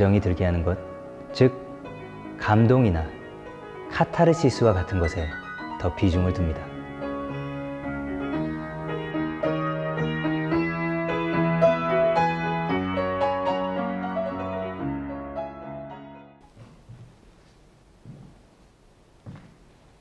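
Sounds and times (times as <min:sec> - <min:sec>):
piano music: 0:00.0 - 0:16.6.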